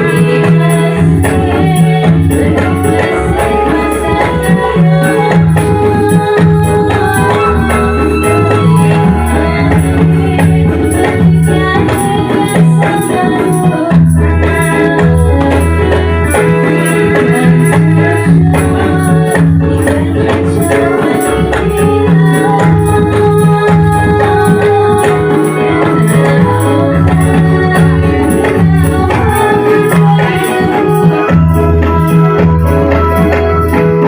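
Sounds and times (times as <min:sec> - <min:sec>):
frame drums with jingles: 0:00.0 - 0:34.0
held bass and keyboard notes: 0:00.0 - 0:34.0.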